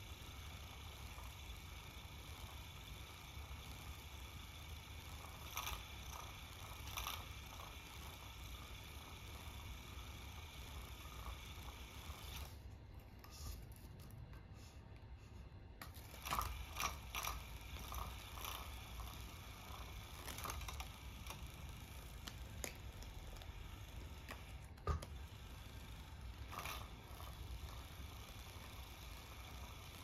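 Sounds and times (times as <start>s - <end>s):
toy motor whirring and clicking: 0.0s - 14.3s, 15.8s - 30.0s.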